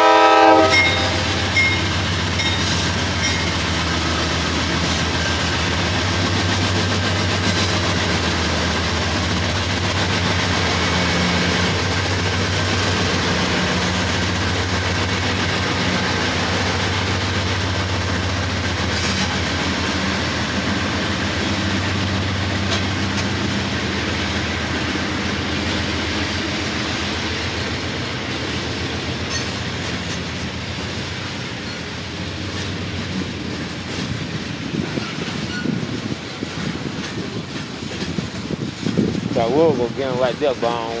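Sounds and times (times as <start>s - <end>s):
freight train passing: 0.0s - 41.0s.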